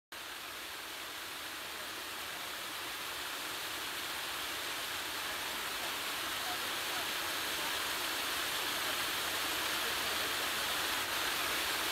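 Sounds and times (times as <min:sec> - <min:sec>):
flowing creek water: 0:00.1 - 0:11.9.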